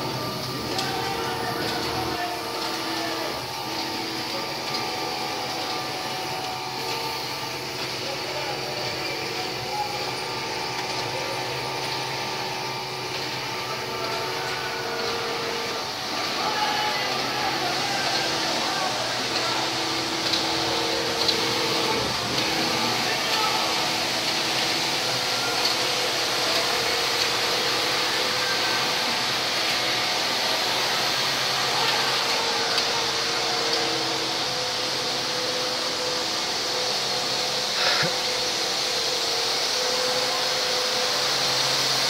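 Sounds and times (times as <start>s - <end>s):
knitting machines whirring: 0.0s - 42.0s.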